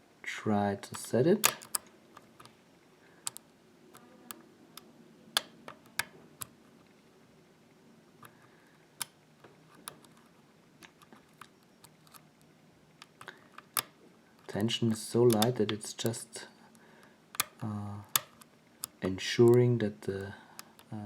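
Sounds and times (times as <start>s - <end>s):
lock pick clicking on pins: 1.0s - 2.6s, 3.2s - 6.6s, 9.0s - 21.0s.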